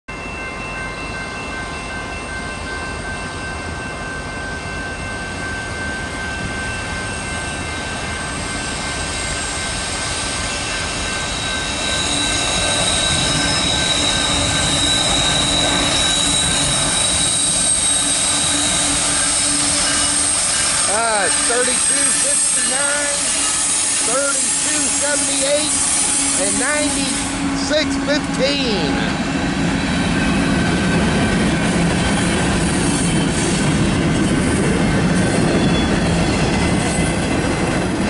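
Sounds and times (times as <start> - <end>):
steady high-pitched tones: 0.1 - 33.5
freight train rumbling: 0.1 - 38.0.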